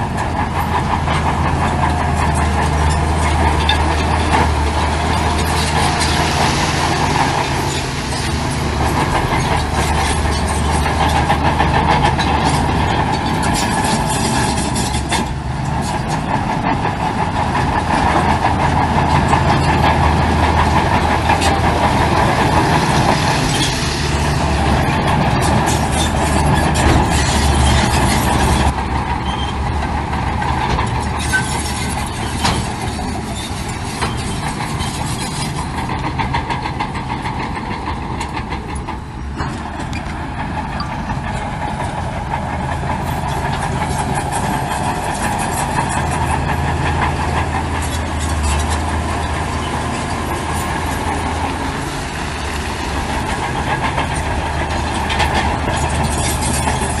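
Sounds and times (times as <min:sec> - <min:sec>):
diesel earthmoving machinery: 0:00.0 - 0:57.0.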